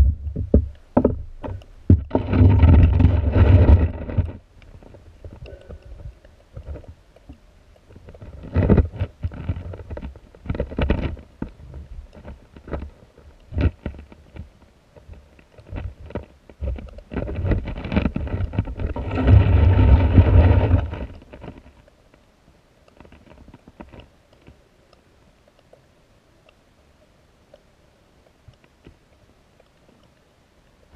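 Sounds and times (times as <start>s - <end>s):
muffled underwater river rushing: 0.0s - 30.9s.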